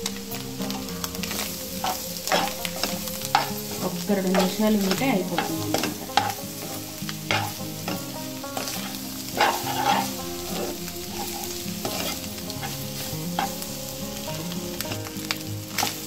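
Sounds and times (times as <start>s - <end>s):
frying sizzle: 0.0s - 16.0s
metal spatula scraping pan: 0.7s - 14.0s.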